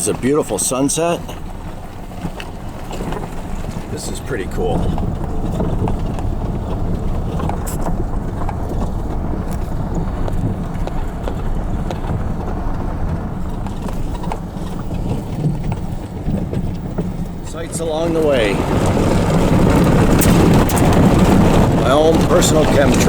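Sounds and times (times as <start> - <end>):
engine and tyres rumbling: 0.0 - 23.0
knocks and rattles from bumps: 0.0 - 23.0.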